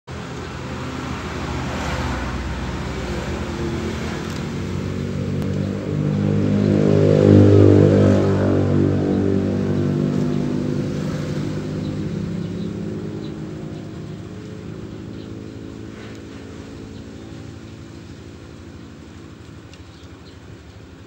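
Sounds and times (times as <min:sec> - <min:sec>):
vehicle engine running: 0:00.1 - 0:21.0.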